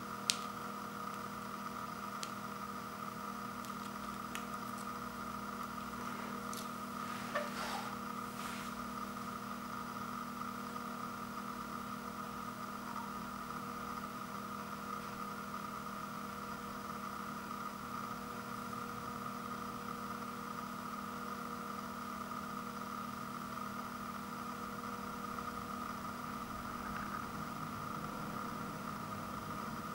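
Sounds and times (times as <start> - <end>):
mechanical hum: 0.0 - 29.9.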